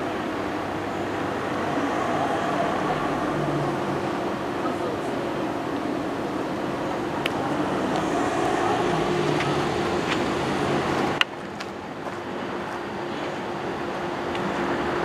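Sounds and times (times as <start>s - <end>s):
traffic rumble: 0.0s - 15.0s
vehicle engine hum: 0.0s - 15.0s.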